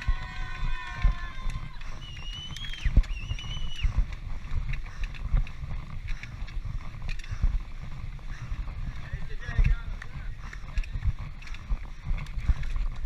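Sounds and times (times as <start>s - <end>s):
bike rattling on rough trail: 0.0s - 13.0s.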